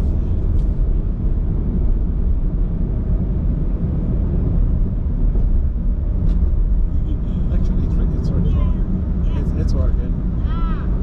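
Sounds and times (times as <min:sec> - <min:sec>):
road and engine rumble in car: 0:00.0 - 0:11.0.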